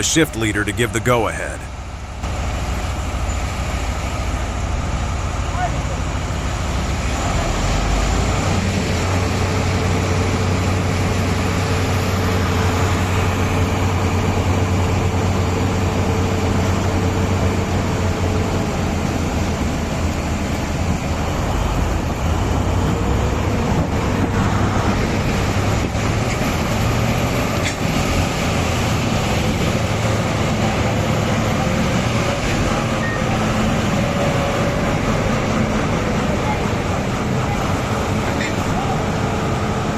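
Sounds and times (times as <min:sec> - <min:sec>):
large diesel engines running: 0:00.0 - 0:39.9.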